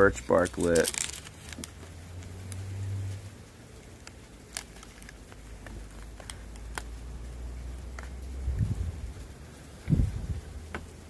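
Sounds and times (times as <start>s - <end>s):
bark tinder crackling: 0.0s - 11.0s
low steady rumble: 0.0s - 11.0s.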